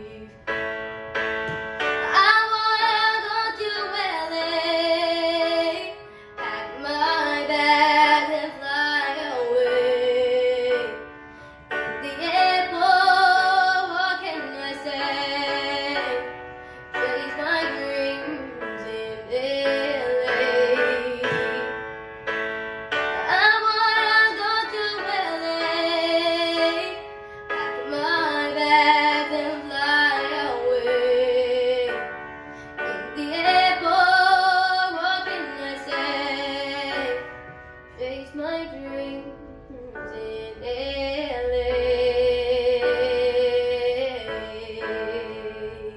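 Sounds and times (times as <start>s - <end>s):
girl singing pop: 0.0s - 22.1s, 23.0s - 45.9s
instrumental accompaniment: 0.0s - 40.6s.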